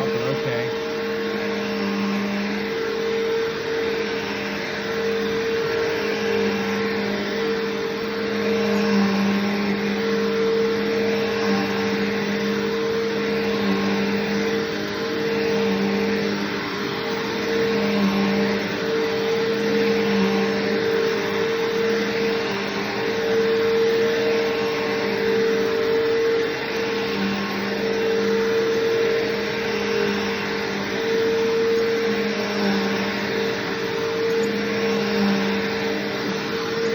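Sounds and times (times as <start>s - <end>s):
upright vacuum running: 0.0s - 36.9s.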